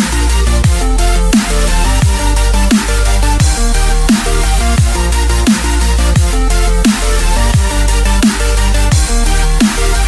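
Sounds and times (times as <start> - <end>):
dubstep dance music: 0.0 - 10.0.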